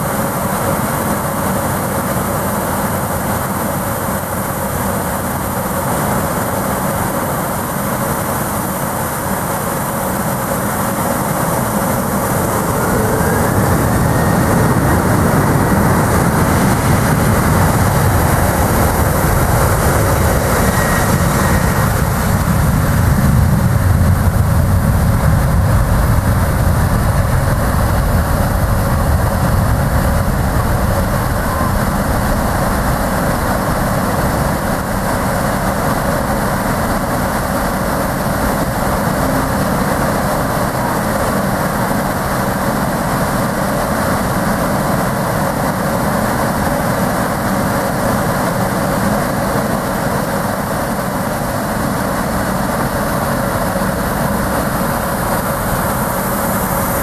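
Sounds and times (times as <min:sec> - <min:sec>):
jet engines at takeoff thrust: 0:00.0 - 0:57.0.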